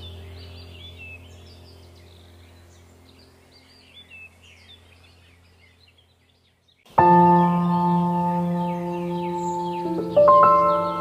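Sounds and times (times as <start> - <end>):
low steady drone: 0.0 - 5.6, 7.0 - 11.0
birds chirping: 0.0 - 11.0.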